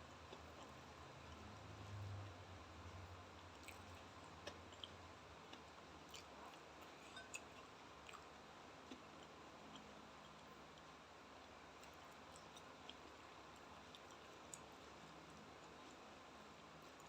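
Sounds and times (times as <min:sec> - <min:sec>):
low steady hiss: 0:00.0 - 0:17.0
quiet chewing: 0:00.1 - 0:17.0.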